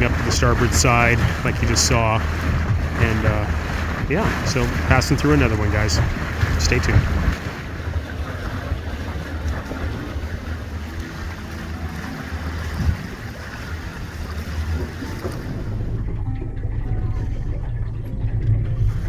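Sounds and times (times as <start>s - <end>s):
wind and water hiss: 0.0s - 16.2s
boat motor running: 0.0s - 19.0s.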